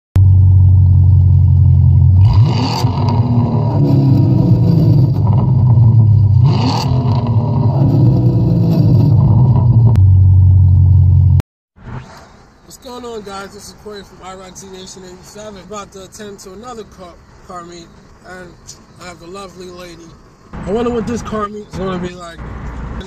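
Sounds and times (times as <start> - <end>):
car engine droning and revving: 0.2 - 15.9, 19.6 - 23.0.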